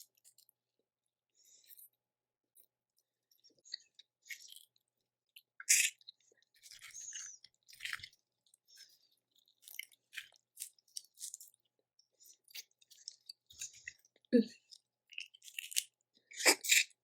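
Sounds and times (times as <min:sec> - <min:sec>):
wet squishy chewing: 0:03.4 - 0:17.0.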